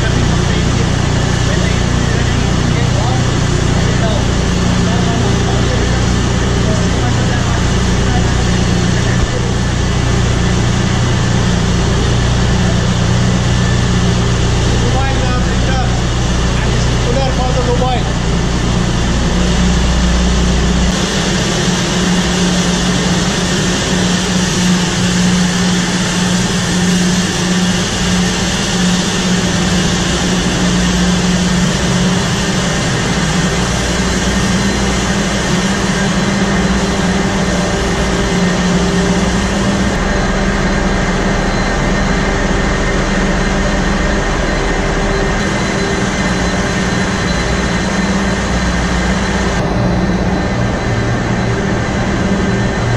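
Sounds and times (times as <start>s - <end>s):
ship engine-room machinery roar: 0.0s - 52.9s.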